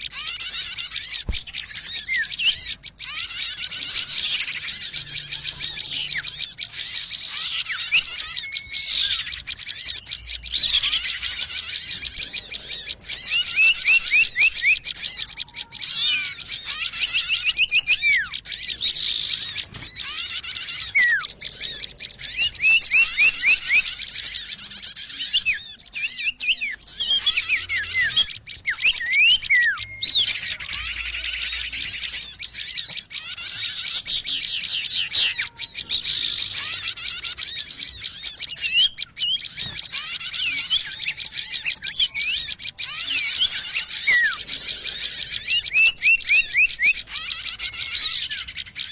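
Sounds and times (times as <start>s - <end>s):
songbirds chirping and twittering: 0.0s - 48.9s.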